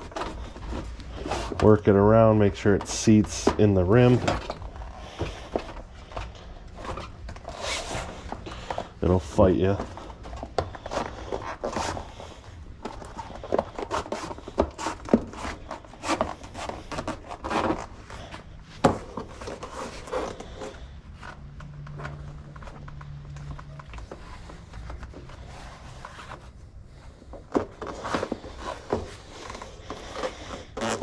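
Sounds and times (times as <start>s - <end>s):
tire scraping against bike rim: 0.0s - 31.0s.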